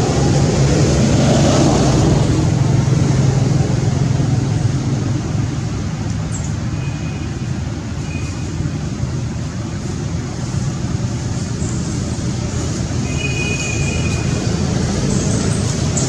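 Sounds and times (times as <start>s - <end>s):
low rumbling background noise: 0.0s - 16.0s.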